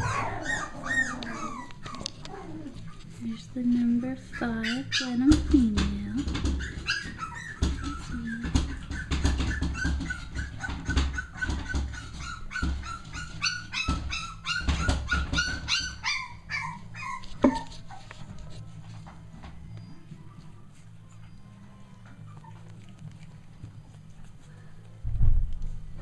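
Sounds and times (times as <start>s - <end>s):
puppies whimpering: 0.0s - 25.0s.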